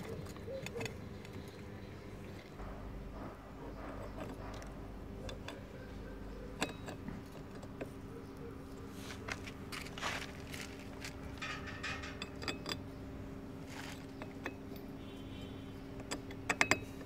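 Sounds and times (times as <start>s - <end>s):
metal parts clicking and knocking: 0.0s - 8.6s, 9.5s - 15.1s, 15.7s - 17.0s
low hum: 0.0s - 16.4s
metal scraping: 0.0s - 17.0s.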